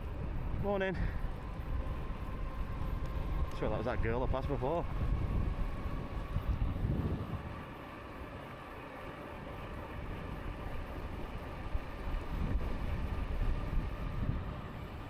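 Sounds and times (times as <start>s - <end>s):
wind rushing over microphone: 0.0s - 7.8s, 9.9s - 15.0s.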